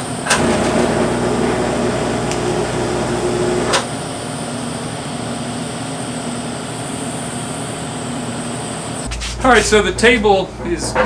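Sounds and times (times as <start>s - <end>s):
welding arc buzzing: 0.0s - 9.1s
machine hum with high whine: 0.0s - 11.0s.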